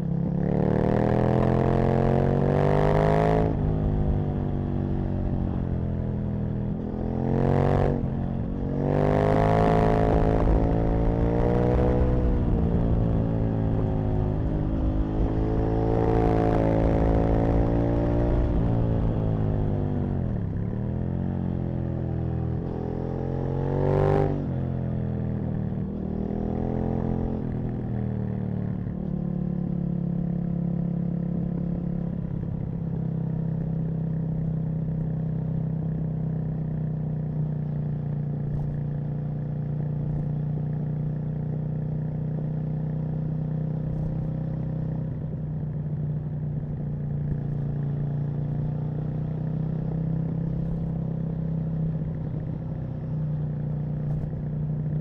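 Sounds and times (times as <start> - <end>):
motorcycle engine revving: 0.0 - 32.8, 37.6 - 55.0.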